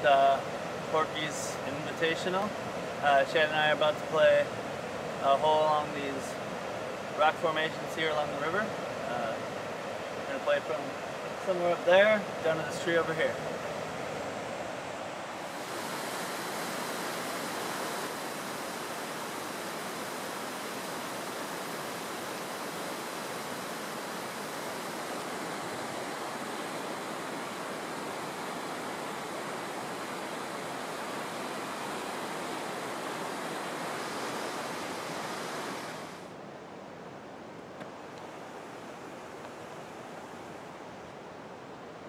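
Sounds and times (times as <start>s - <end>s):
river water rushing over rocks: 0.0s - 42.0s.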